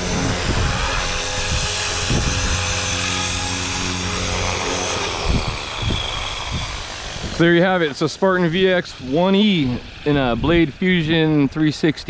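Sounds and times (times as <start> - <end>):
rc helicopter rotor and motor whine: 0.0 - 12.0.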